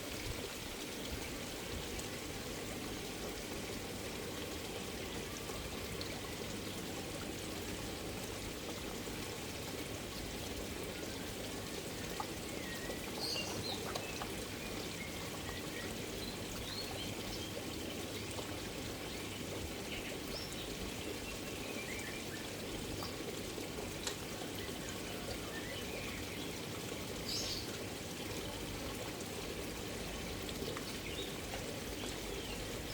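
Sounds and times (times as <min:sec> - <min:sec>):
pond water pouring and trickling: 0:00.0 - 0:32.9.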